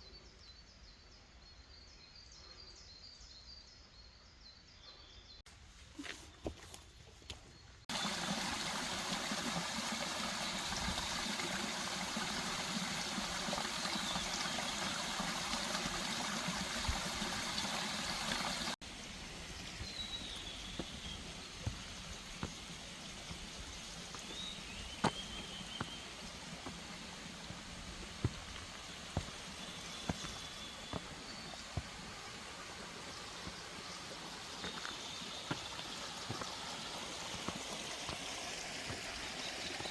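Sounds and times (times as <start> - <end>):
stream rushing over rocks: 7.9 - 39.9.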